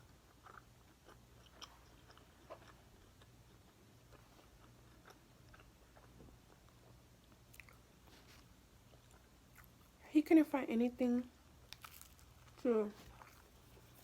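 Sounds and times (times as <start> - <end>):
person chewing food: 0.0 - 10.0, 11.6 - 14.0.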